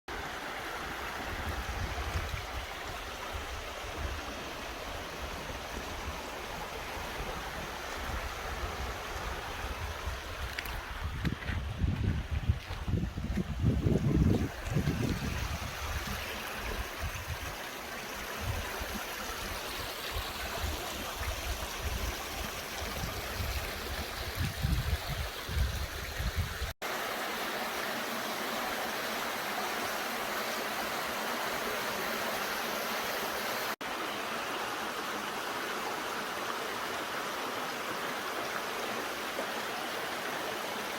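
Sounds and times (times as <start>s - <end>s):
stream water rushing over rocks: 0.1s - 40.9s.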